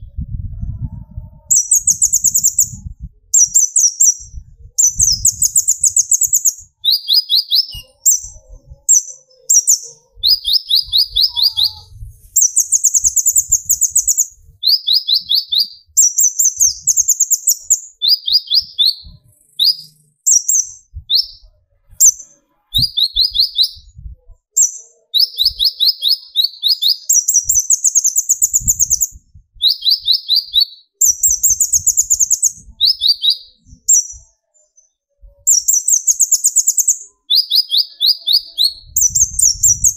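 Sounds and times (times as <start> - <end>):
sunbird singing rapid trills: 1.5 - 24.0, 24.6 - 39.9.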